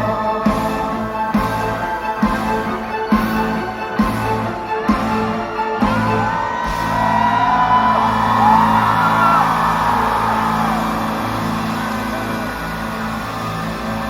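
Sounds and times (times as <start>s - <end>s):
audience screaming and whooping: 0.0s - 14.0s
live concert music: 0.0s - 14.0s.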